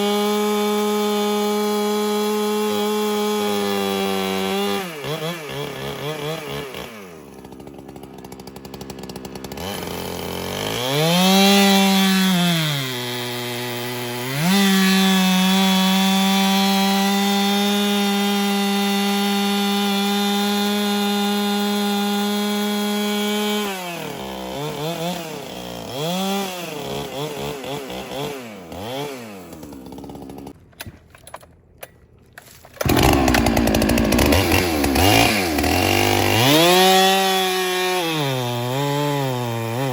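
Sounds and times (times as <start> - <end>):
chainsaw revving: 0.0 - 30.6, 32.8 - 39.9.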